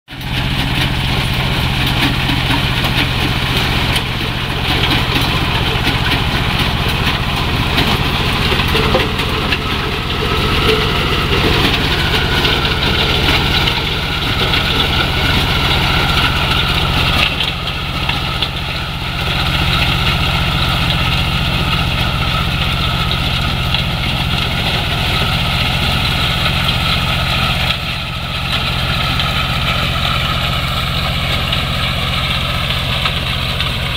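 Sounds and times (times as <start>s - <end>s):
combine harvester engine drone: 0.1s - 33.9s.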